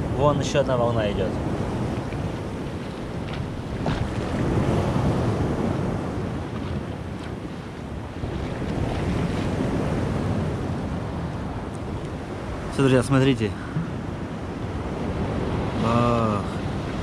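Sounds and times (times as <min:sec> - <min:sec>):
waves splashing against concrete: 0:00.0 - 0:17.0.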